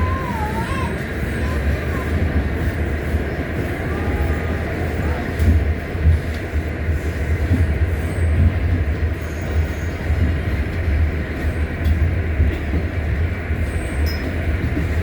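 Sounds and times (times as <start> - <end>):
subway car rumbling on track: 0.0 - 15.0.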